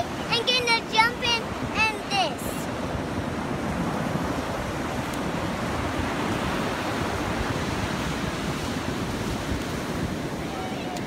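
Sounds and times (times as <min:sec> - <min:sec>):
ocean surf washing on shore: 0:00.0 - 0:11.0
wind rumbling on microphone: 0:00.0 - 0:11.0.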